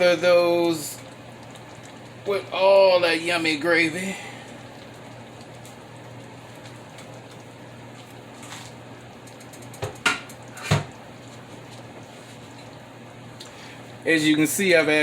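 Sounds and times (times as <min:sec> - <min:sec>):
gravy simmering in a pan: 0:00.0 - 0:15.0.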